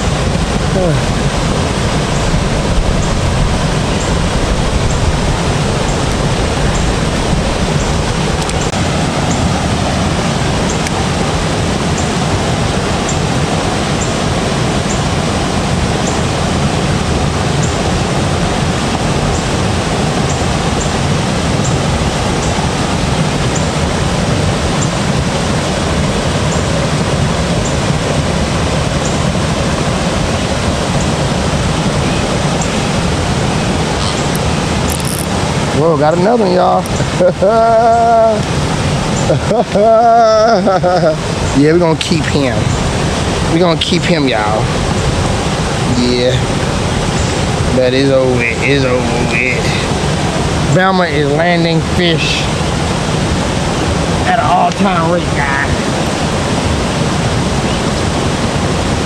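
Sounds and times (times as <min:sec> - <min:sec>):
loud rushing noise: 0:00.0 - 0:59.0.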